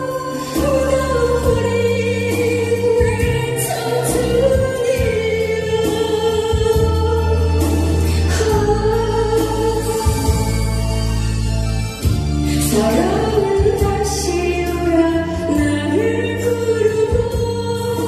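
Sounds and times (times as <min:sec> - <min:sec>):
instrumental accompaniment: 0:00.0 - 0:18.0
woman singing into a microphone: 0:00.0 - 0:18.0.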